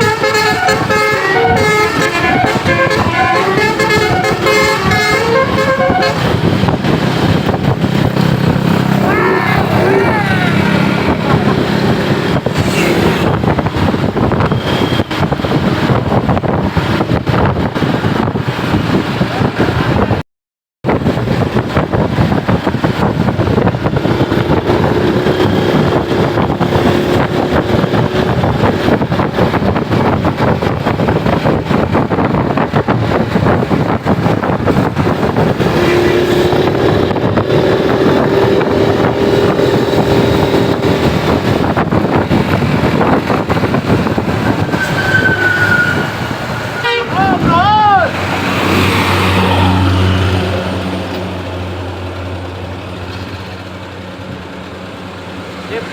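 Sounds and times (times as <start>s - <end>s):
vehicles moving: 0.0s - 20.2s, 20.9s - 55.9s
wind rushing over microphone: 0.0s - 20.2s, 20.8s - 55.9s.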